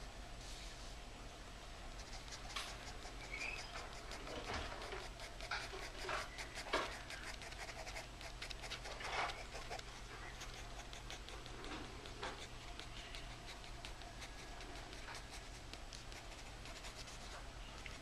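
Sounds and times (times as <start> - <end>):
pencil scratching on paper: 2.0 - 17.4.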